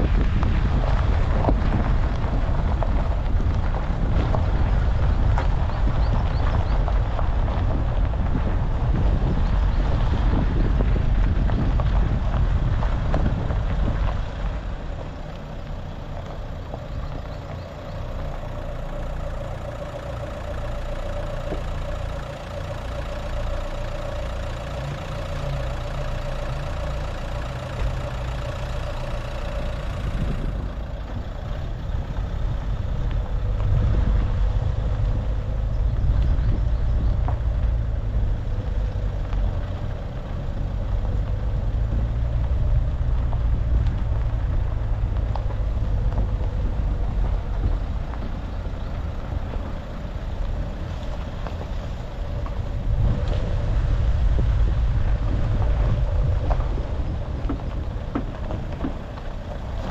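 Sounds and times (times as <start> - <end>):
car engine rumbling: 0.0 - 59.9
road noise: 0.0 - 59.9.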